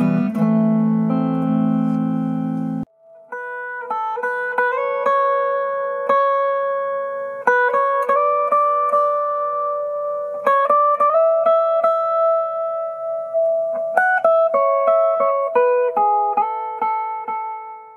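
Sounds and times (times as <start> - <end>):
guitar chords ringing: 0.0 - 17.9
guitar picked notes: 0.0 - 17.9.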